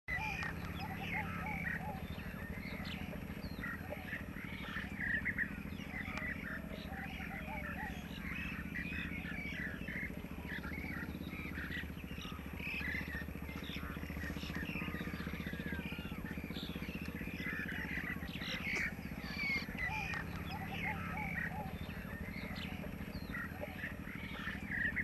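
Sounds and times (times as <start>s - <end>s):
small birds chirping and trilling: 0.0s - 25.0s
steady low hum: 0.1s - 25.0s.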